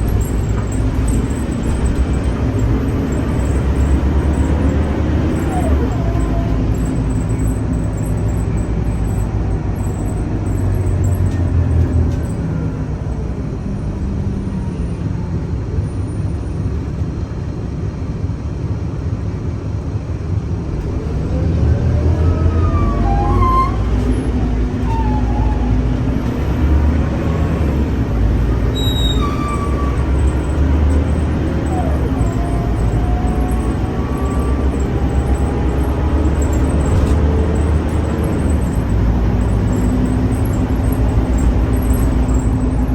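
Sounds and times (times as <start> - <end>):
bus diesel engine running: 0.0 - 42.9.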